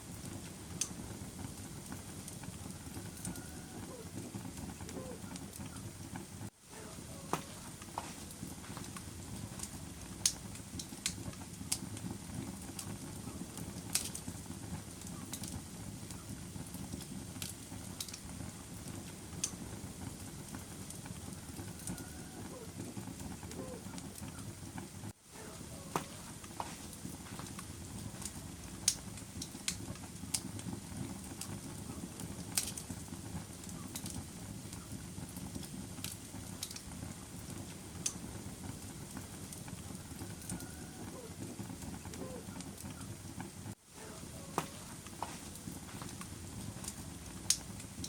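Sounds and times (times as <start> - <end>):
fire crackles and pops: 0.0 - 48.0
fire flames rushing: 0.0 - 48.0.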